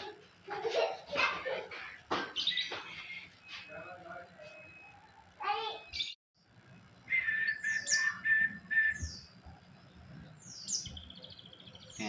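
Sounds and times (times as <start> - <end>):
songbird chirping: 2.3 - 12.0.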